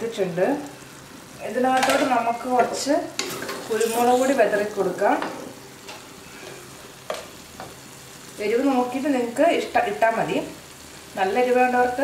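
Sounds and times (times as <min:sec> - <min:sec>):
masala frying and sizzling: 0:00.0 - 0:12.0.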